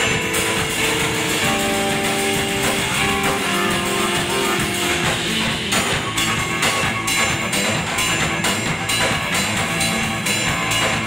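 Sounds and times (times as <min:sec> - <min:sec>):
drum kit beat with cymbals: 0:00.0 - 0:11.0
electric bass: 0:00.0 - 0:11.0
electric guitar: 0:00.0 - 0:11.0.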